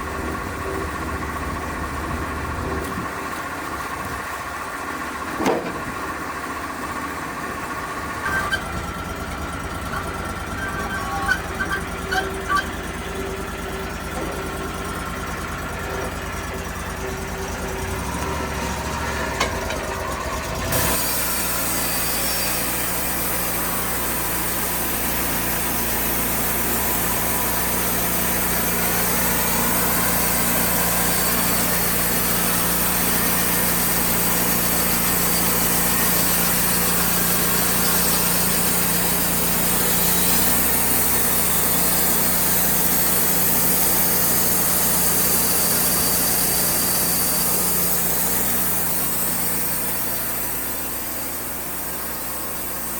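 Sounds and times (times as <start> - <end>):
band sawmill engine droning: 0.0 - 52.9.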